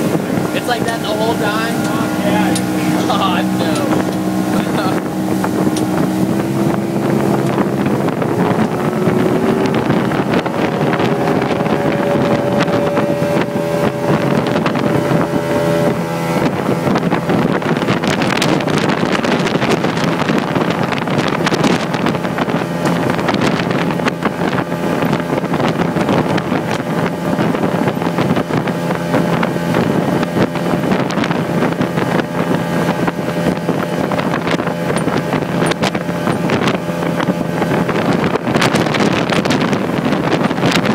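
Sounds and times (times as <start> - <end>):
outboard motor at speed: 0.0 - 40.9
wind on microphone: 0.0 - 40.9.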